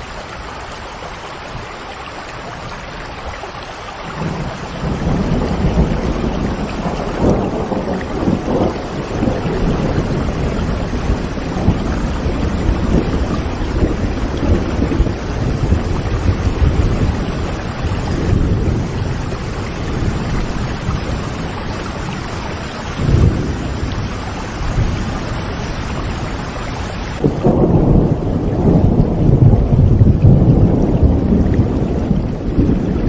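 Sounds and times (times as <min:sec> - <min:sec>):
steady rain: 0:00.0 - 0:33.0
rolling thunder: 0:04.0 - 0:33.0.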